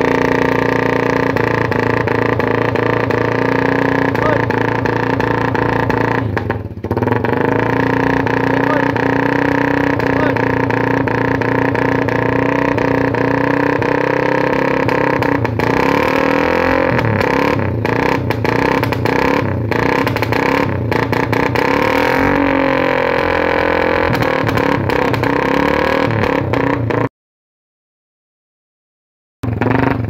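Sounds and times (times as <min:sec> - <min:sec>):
exhaust pops and crackles: 0:00.0 - 0:27.1
motorcycle engine revving: 0:00.0 - 0:27.1, 0:29.4 - 0:30.0.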